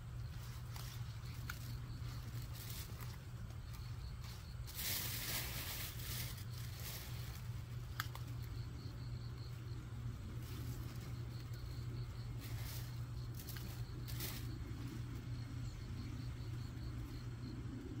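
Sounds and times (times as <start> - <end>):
leaves rustling: 0.0 - 17.2
steady low hum: 0.0 - 18.0.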